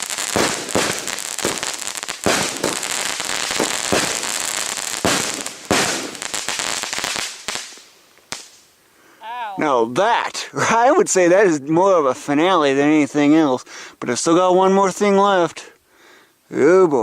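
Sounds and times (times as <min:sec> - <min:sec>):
fireworks crackling: 0:00.0 - 0:15.5.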